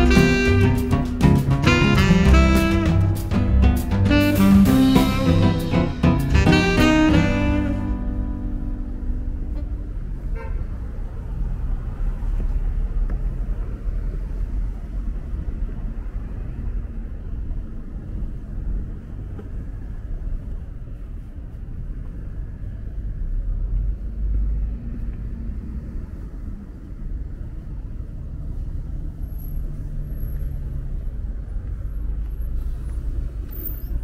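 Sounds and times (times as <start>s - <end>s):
rumble of vehicles: 0.0s - 34.0s.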